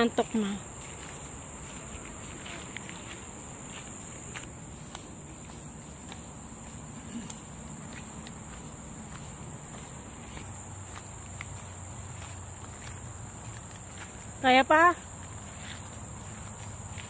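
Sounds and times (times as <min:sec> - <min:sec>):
footsteps on gravel: 0:00.0 - 0:17.0
insects droning: 0:00.0 - 0:17.0.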